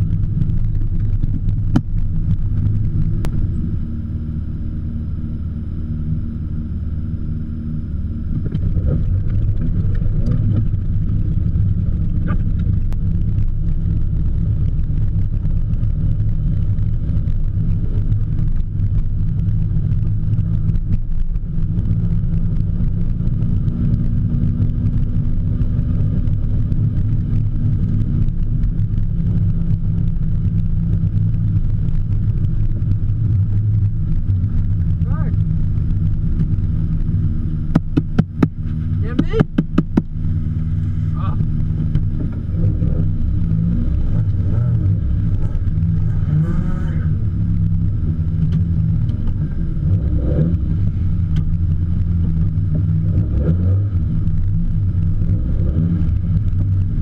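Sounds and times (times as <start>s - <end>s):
car engine at low revs: 0.0s - 57.0s.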